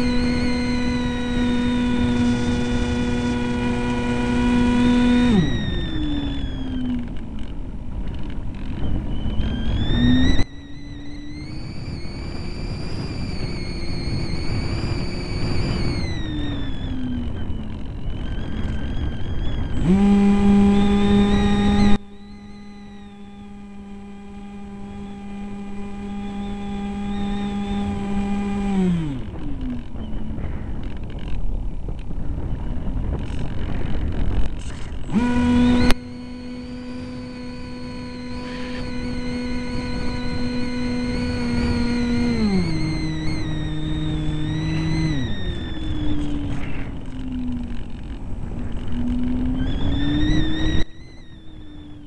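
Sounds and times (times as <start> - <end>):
electric motor and propeller whining: 0.0 - 52.0
wind noise on microphone: 0.0 - 52.0.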